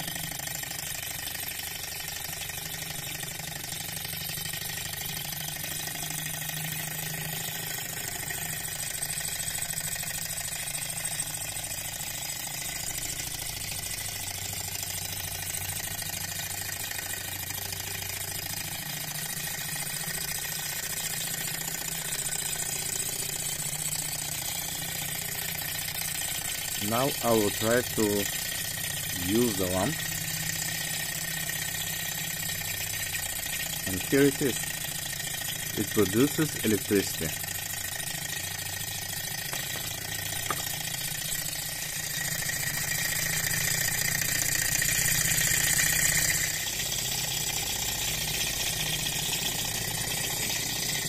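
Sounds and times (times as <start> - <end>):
small model engine running: 0.0 - 51.0.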